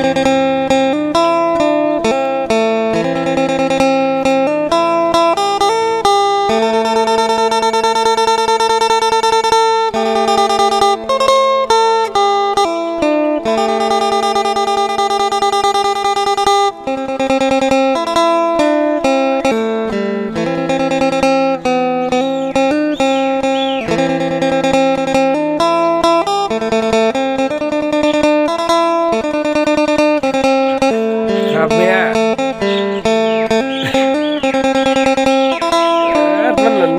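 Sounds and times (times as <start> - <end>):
guitar playing plucked melody: 0.0 - 36.9.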